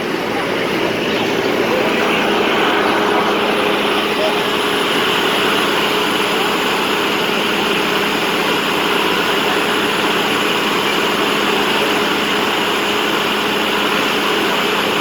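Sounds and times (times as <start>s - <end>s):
fire truck engine humming: 0.0s - 15.0s.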